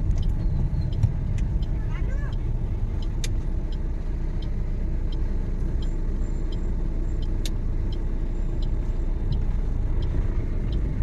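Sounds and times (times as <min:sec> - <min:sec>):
car engine and tyre rumble: 0:00.0 - 0:11.0
faint regular ticking: 0:00.0 - 0:11.0.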